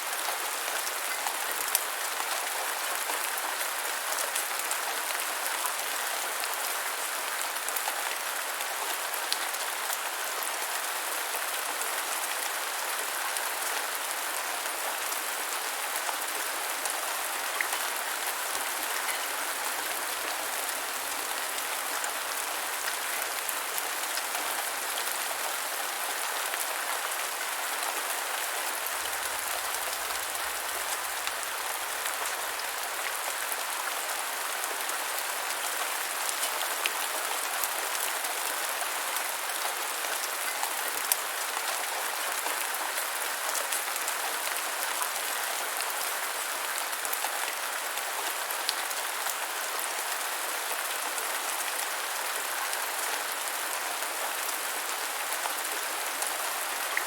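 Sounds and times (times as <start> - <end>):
rain pattering on ground: 0.0 - 57.0.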